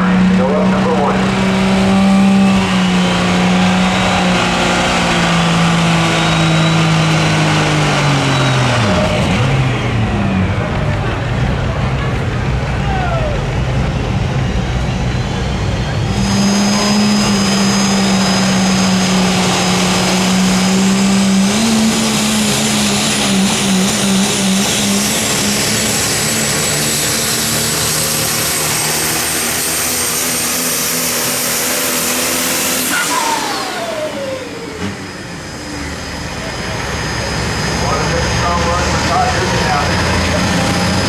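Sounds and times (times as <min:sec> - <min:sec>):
turbocharger whistle: 0:00.0 - 0:10.8, 0:12.6 - 0:41.0
diesel truck engine at full throttle: 0:00.0 - 0:41.0.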